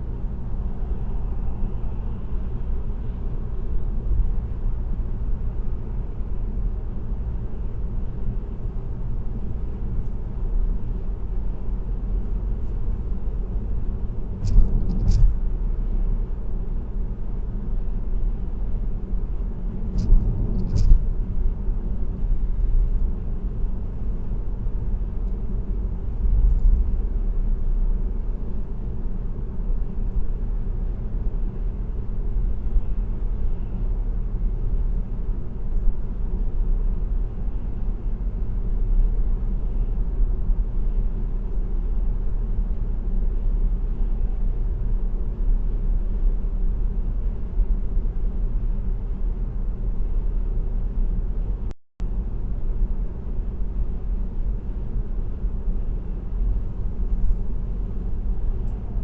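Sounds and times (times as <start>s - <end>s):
car road rumble from inside: 0.0s - 59.0s.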